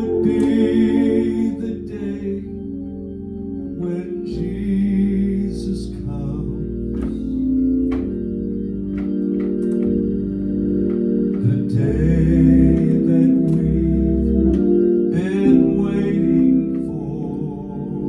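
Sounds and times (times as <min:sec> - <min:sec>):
organ playing gospel chords: 0:00.0 - 0:18.0.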